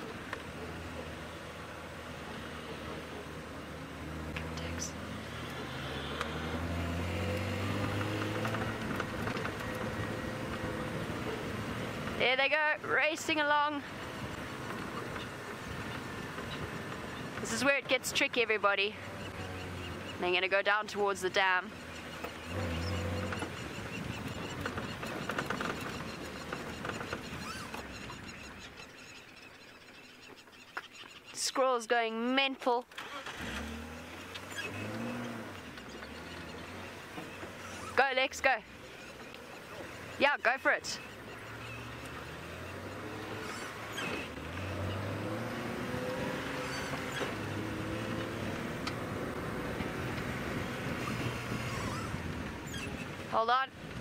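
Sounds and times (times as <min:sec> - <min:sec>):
rumbling road noise: 0:00.0 - 0:54.0
vehicle engine on dirt track: 0:00.0 - 0:54.0.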